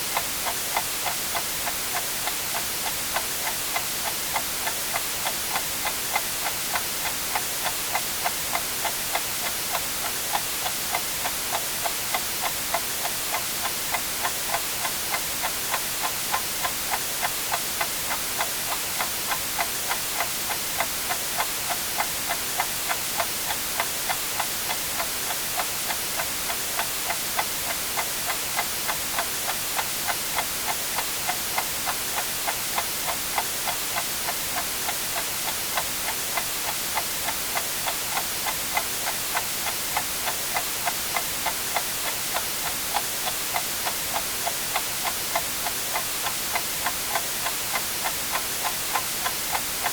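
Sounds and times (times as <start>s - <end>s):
white noise hiss: 0.0s - 49.9s
clock ticking: 6.7s - 49.9s.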